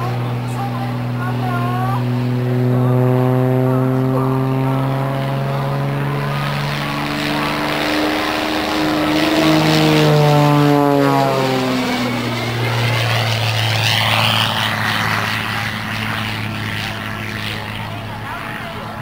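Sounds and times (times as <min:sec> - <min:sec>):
propeller plane engine overhead: 0:00.0 - 0:19.0.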